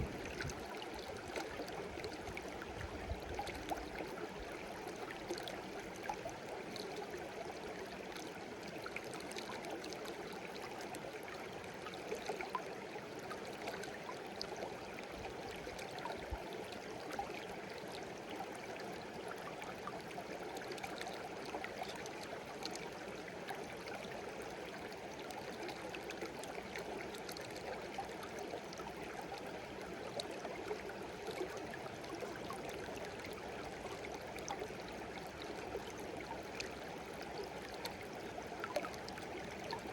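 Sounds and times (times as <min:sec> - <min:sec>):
stream babbling and gurgling: 0:00.0 - 0:39.9.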